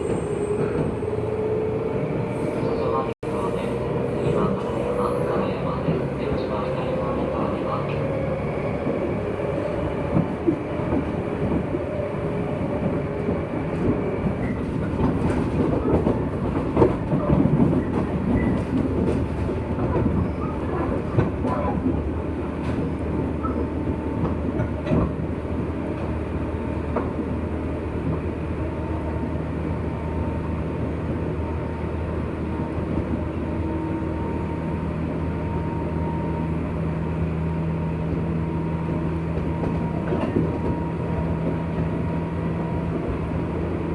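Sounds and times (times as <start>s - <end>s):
electric train rumbling on rails: 0.0s - 43.9s.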